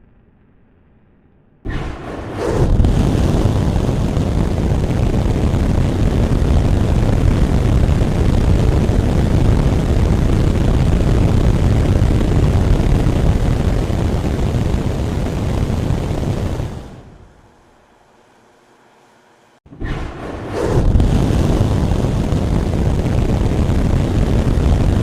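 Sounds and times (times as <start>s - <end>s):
rocket engines deep rumble: 0.0s - 25.0s.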